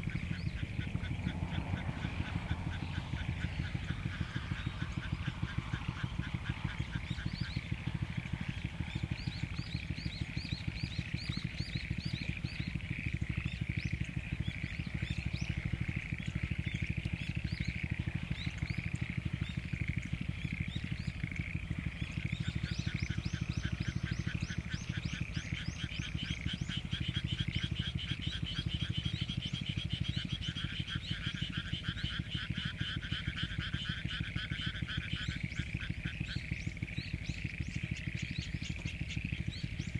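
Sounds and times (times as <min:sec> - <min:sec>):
frogs calling in chorus: 0:00.0 - 0:39.9
low pulsing: 0:00.0 - 0:39.9.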